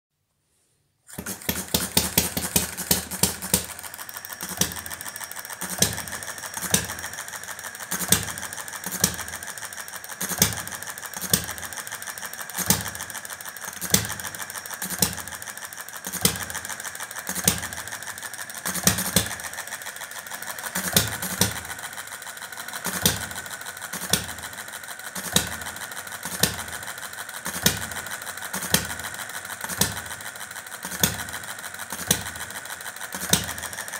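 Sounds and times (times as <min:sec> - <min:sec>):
light mechanical clatter: 0:01.1 - 0:33.9
stationary engine firing: 0:01.1 - 0:33.9.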